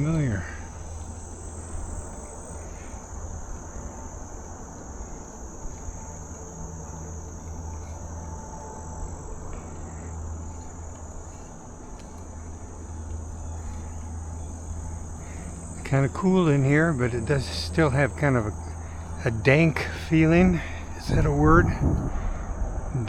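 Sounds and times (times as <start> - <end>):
insects chorus: 0.0 - 23.0
wind rumble while cycling: 0.0 - 23.0.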